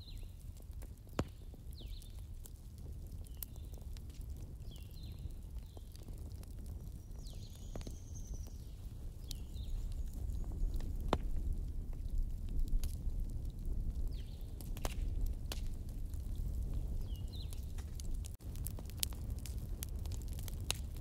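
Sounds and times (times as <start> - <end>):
sharp fire pops: 0.0 - 21.0
wood fire crackling: 0.0 - 21.0.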